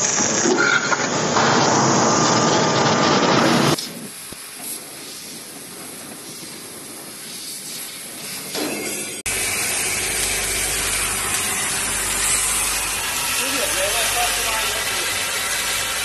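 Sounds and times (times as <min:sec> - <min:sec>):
laser cutter gas jet hissing: 0:01.3 - 0:16.0.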